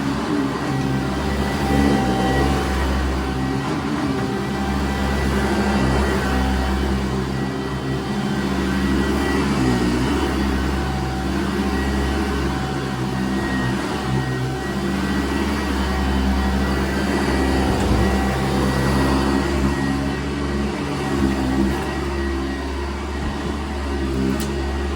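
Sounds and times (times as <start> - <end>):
vacuum cleaner running on carpet: 0.0 - 24.9.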